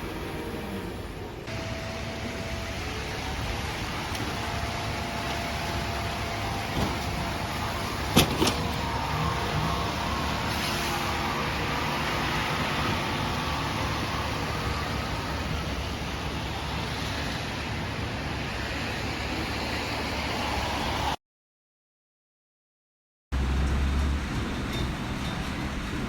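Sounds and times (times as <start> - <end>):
bus road and engine noise: 0.0 - 21.2, 23.3 - 26.0.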